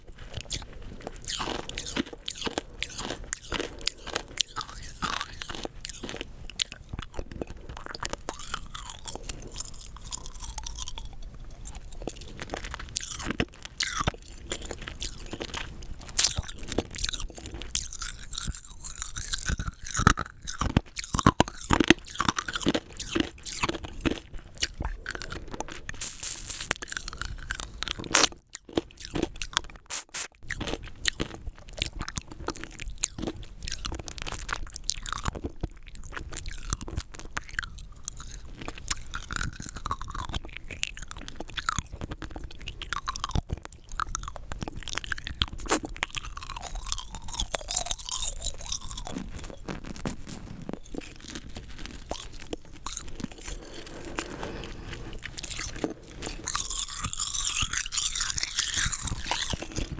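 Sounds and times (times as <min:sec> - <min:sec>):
chewing: 0:00.0 - 0:59.9
hard candy crunching: 0:00.0 - 0:59.9.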